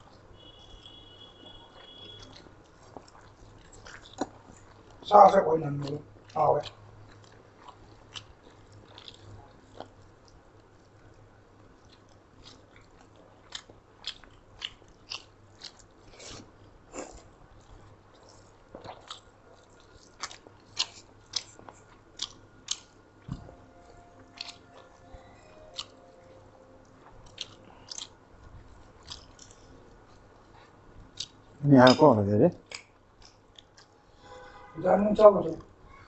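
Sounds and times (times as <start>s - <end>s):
people chewing food: 0.0s - 34.7s.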